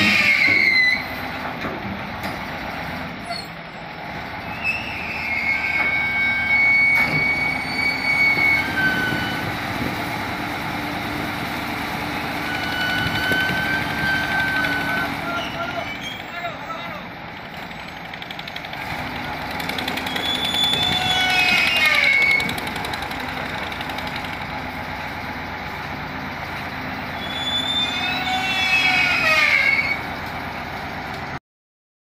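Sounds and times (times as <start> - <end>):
crane and truck running: 0.0 - 31.4.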